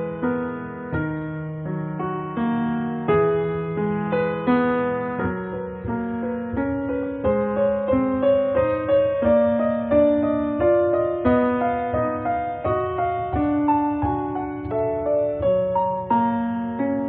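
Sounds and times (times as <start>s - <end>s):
slow piano-like keyboard music: 0.0s - 17.0s.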